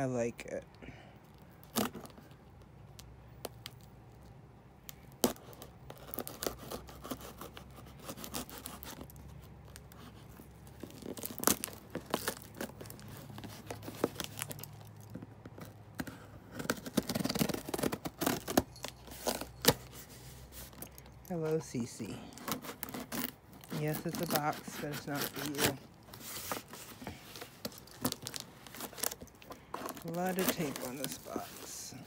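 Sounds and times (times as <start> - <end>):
cardboard and packaging crinkling: 1.3 - 32.0
packing tape tearing: 1.6 - 2.4, 4.8 - 21.0, 22.3 - 32.0.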